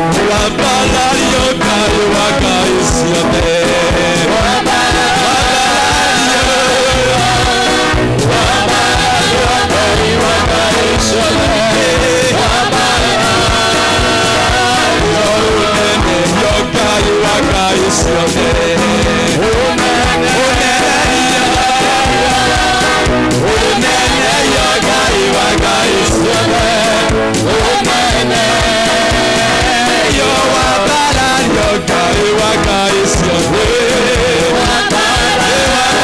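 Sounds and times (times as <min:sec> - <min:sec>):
backing music with drum beat: 0:00.0 - 0:36.0
man singing into a microphone: 0:00.0 - 0:36.0.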